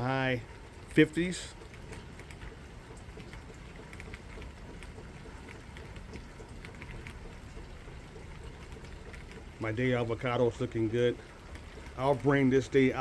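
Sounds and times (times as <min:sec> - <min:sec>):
light rain hissing: 0:00.0 - 0:13.0
raindrops ticking: 0:00.0 - 0:13.0.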